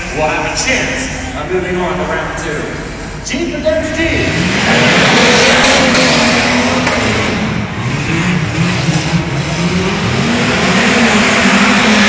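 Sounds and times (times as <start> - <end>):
dense noisy wash: 0.0 - 12.0
racing engines revving: 0.0 - 12.0.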